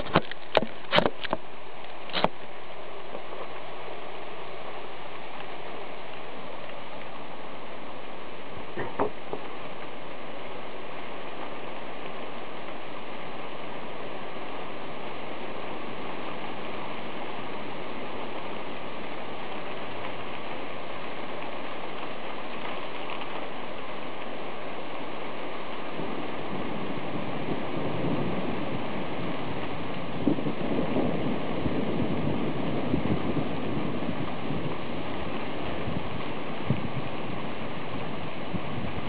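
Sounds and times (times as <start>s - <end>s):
heavy rain hissing: 0.0s - 39.0s
low thunder rumble: 2.3s - 39.0s.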